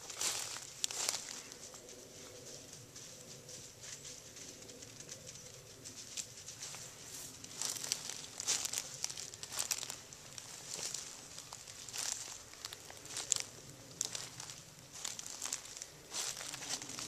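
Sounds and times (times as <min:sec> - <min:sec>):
footsteps crunching dry leaves: 0:00.0 - 0:04.4, 0:05.9 - 0:17.0.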